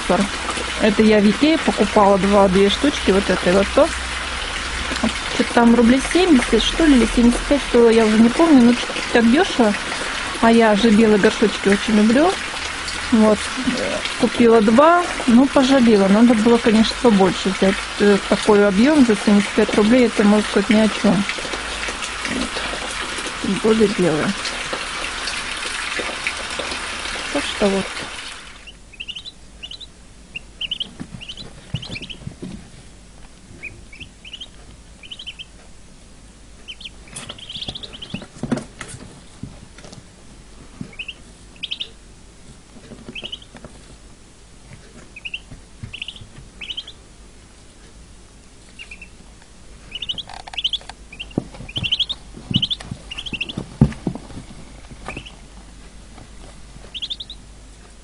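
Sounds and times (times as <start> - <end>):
ducklings peeping: 0.0 - 32.6, 33.5 - 35.7, 36.6 - 38.4, 40.8 - 42.0, 43.0 - 43.9, 44.8 - 47.1, 48.6 - 49.2, 49.8 - 54.0, 55.0 - 55.5, 56.8 - 57.5.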